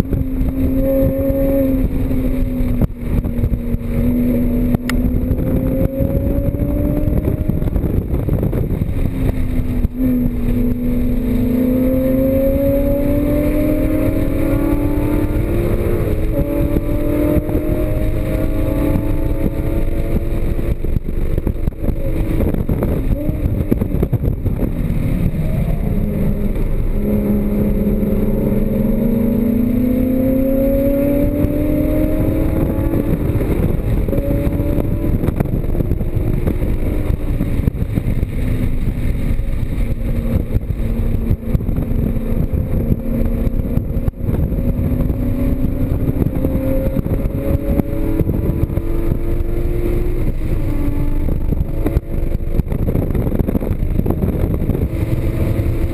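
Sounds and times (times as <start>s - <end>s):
car engine at full throttle: 0.0s - 55.9s
road and wind noise: 0.0s - 55.9s.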